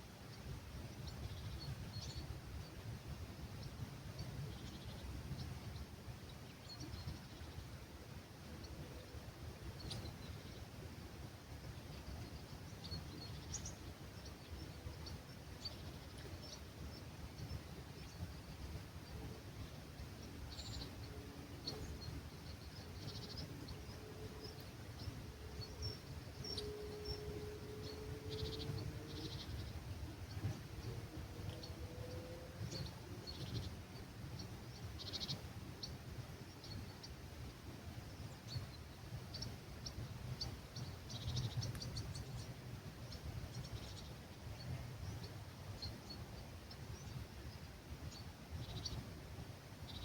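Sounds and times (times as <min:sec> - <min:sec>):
faint steady hum: 0:00.0 - 0:50.0
low rumble of breeze: 0:00.0 - 0:50.0
small songbirds chirping: 0:00.0 - 0:50.0.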